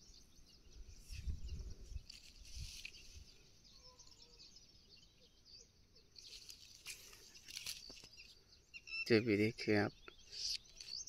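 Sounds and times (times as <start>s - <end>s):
faint chirps: 0.0s - 11.0s.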